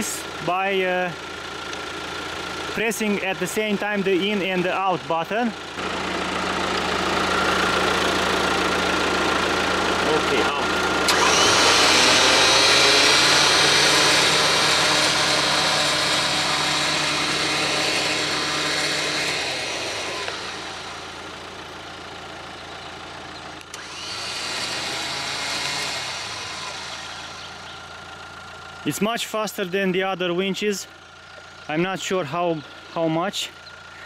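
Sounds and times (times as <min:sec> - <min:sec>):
electric winch motor running: 0:00.0 - 0:28.8.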